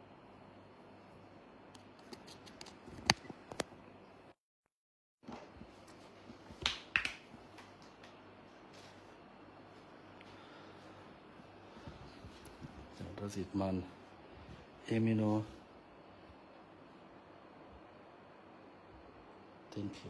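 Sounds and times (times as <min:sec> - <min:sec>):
low room hiss: 0:00.0 - 0:04.4, 0:05.3 - 0:20.0.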